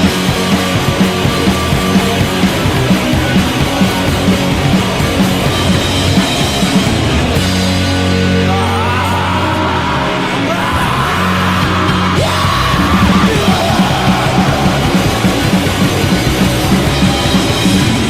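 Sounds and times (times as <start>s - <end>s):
bass guitar: 0.0s - 18.0s
drums: 0.0s - 18.0s
electric guitar: 0.0s - 18.0s
yelled vocals: 0.0s - 18.0s.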